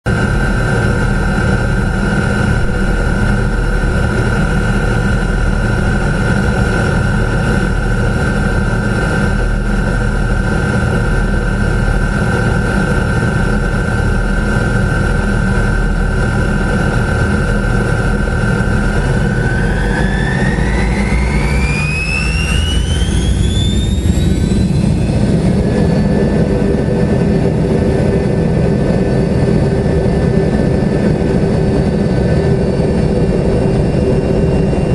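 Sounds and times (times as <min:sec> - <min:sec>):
jet engines whining and rumbling: 0:00.0 - 0:34.9.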